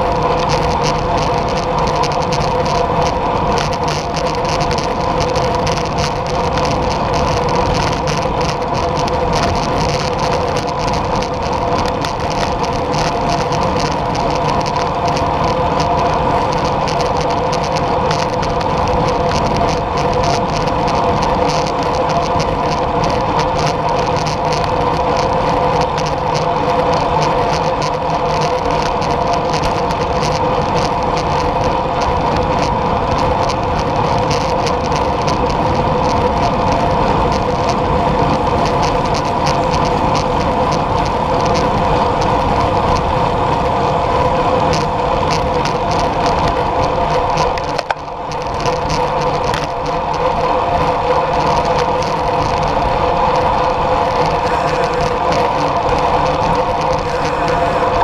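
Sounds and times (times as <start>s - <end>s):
bicycle tyres rolling on asphalt: 0.0s - 58.0s
wind rushing over camera: 0.0s - 58.0s.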